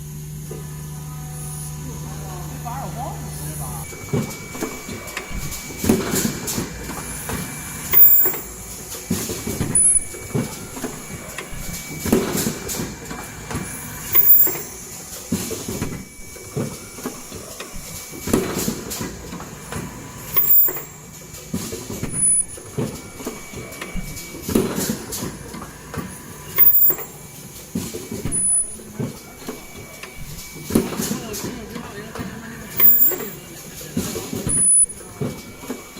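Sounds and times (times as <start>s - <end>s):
machine clunks and clicks: 3.9s - 35.9s.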